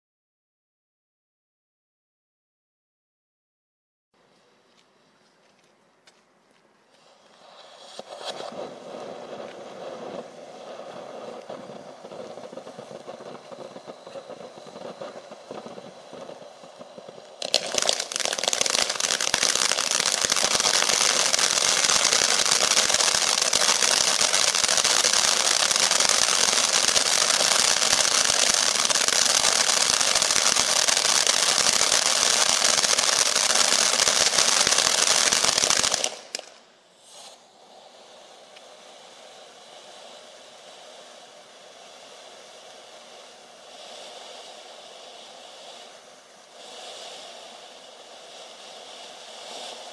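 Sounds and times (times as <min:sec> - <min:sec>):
firework fountain crackling hiss: 0:04.4 - 0:49.9.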